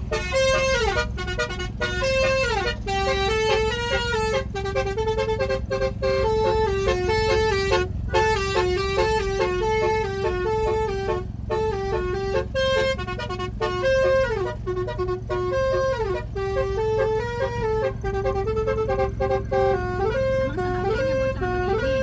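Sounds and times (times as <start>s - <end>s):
musical bus horn playing a tune: 0.0s - 22.0s.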